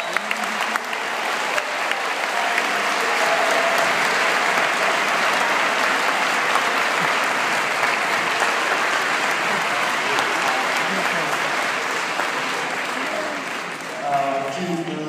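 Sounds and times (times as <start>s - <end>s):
children applauding: 0.0s - 15.0s.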